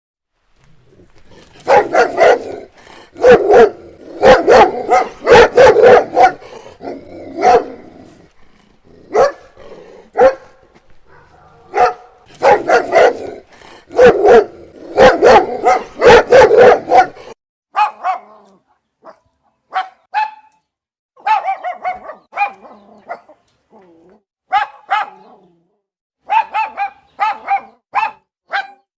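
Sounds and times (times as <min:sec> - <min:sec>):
dog barking: 0:01.6 - 0:07.9, 0:09.1 - 0:20.6, 0:21.2 - 0:23.4, 0:24.5 - 0:25.4, 0:26.2 - 0:28.9.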